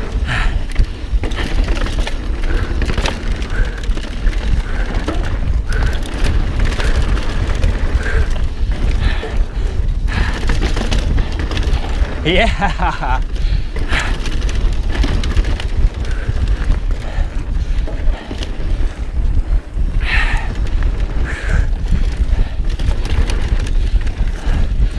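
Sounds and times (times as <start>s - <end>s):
bike knocking and rattling: 0.0s - 24.9s
tyres rumbling on dirt: 0.0s - 24.9s
wind rushing: 0.0s - 24.9s.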